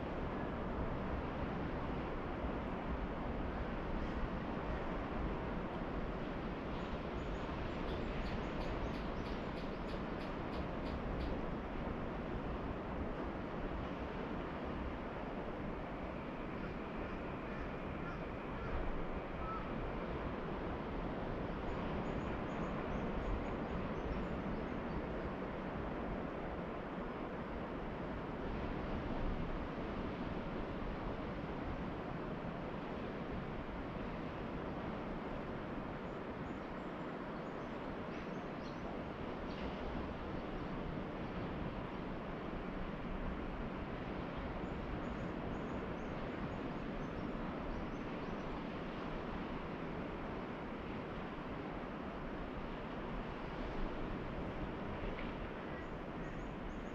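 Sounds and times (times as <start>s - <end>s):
distant ocean surf: 0.0s - 56.9s.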